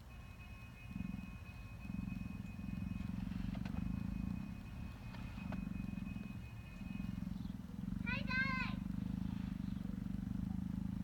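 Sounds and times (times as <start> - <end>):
low buzzing drone from dashboard: 0.0 - 11.0.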